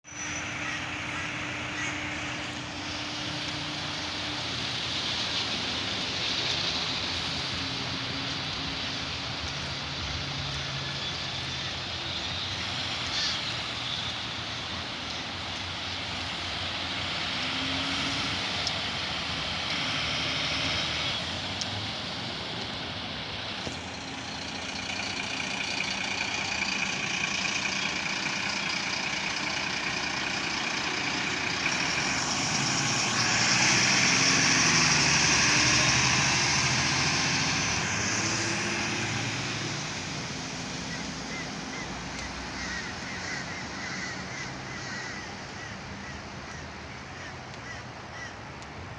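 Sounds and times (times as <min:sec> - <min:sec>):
fire truck engine running: 0:00.0 - 0:46.4
road noise: 0:00.0 - 0:48.9.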